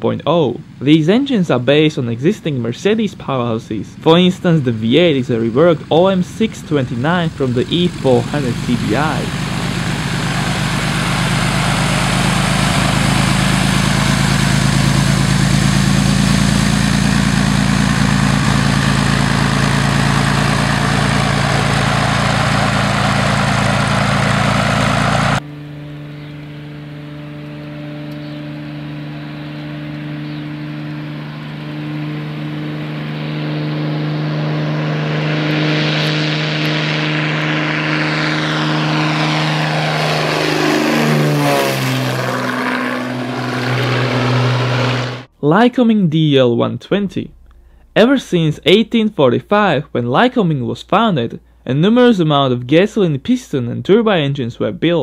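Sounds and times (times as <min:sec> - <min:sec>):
propeller plane engine running: 0:00.0 - 0:45.4, 0:47.2 - 0:48.8
light plane taking off overhead: 0:00.4 - 0:45.3.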